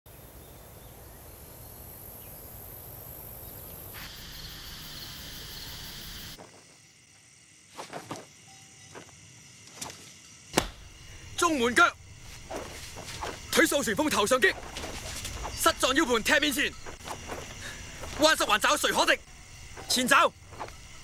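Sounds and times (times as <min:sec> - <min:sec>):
crickets and insects trilling: 0:00.1 - 0:21.0.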